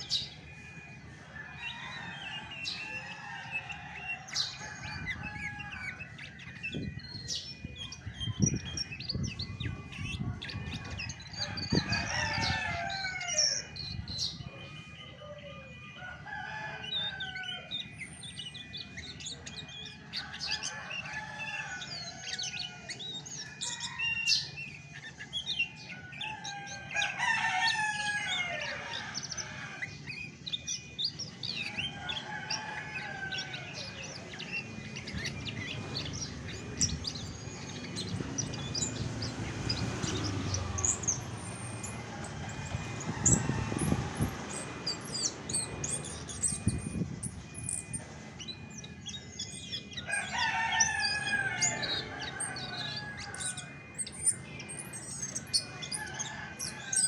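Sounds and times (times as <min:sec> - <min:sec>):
thrush singing: 0:00.0 - 0:57.0.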